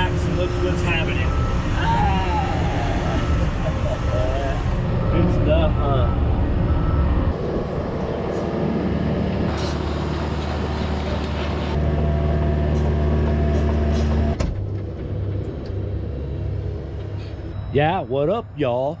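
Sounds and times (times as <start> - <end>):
large engine humming: 0.0 - 18.9.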